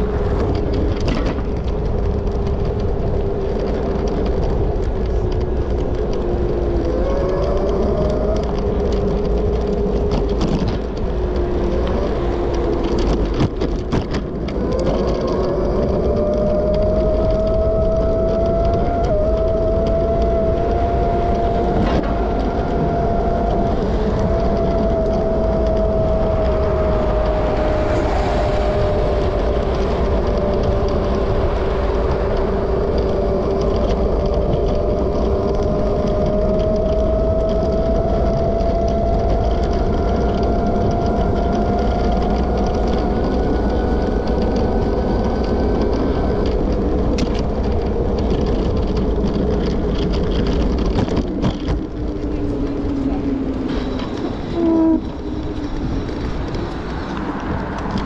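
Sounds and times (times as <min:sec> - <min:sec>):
low rumble: 0:00.0 - 0:58.0
wind noise: 0:00.0 - 0:58.0.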